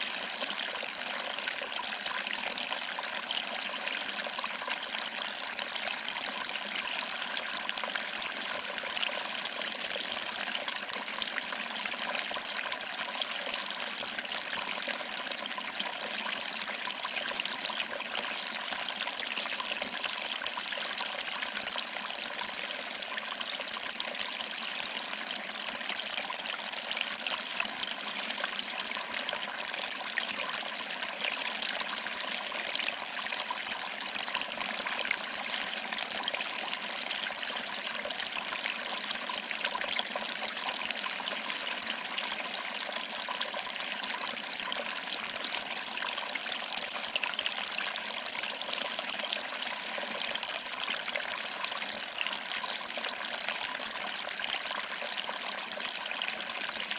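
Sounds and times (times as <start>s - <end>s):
waterfall trickling over rocks: 0.0s - 56.9s.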